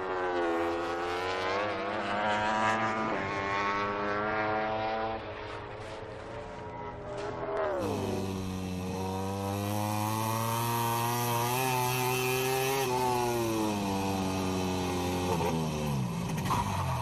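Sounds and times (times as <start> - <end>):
motorcycle engine: 0.0 - 17.0.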